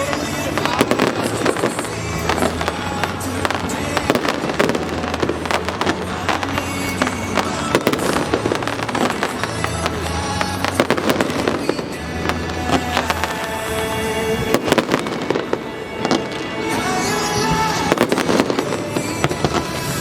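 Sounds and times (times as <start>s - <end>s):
fireworks bangs and crackles: 0.0s - 20.0s
loud music with bass: 0.0s - 20.0s.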